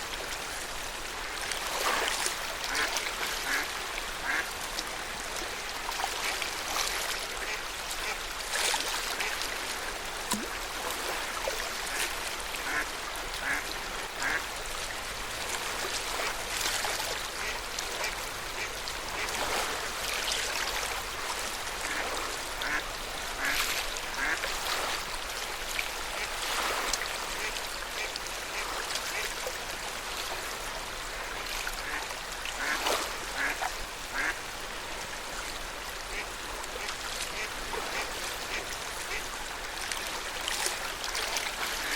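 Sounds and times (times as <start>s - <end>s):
water birds calling: 0.0s - 41.9s
water lapping at shore: 0.0s - 41.9s.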